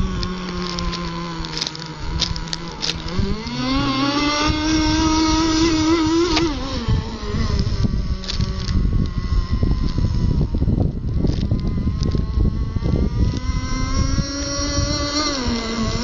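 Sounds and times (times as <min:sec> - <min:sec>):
model boat engine revving: 0:00.0 - 0:16.0.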